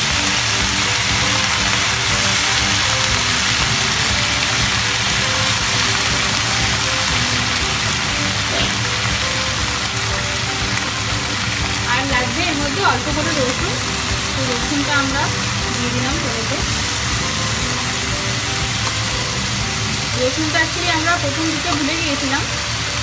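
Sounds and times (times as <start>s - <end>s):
background music: 0.0s - 23.0s
frying in hot oil: 0.0s - 23.0s.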